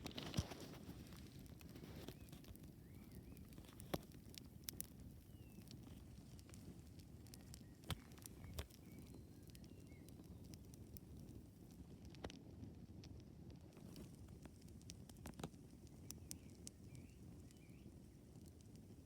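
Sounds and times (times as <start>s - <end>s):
campfire crackling: 0.0s - 19.0s
low rumble of fire: 0.0s - 19.0s.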